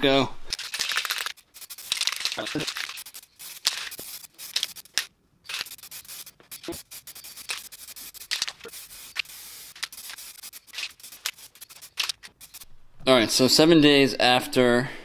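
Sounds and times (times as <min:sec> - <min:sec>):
aerosol spray can hissing: 0:00.6 - 0:12.7.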